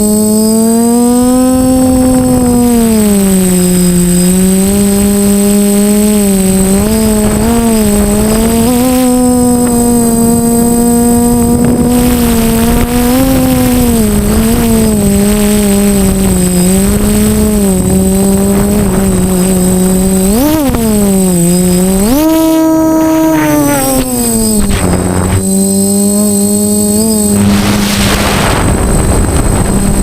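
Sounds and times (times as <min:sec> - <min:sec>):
quadcopter propellers buzzing: 0:00.0 - 0:30.0.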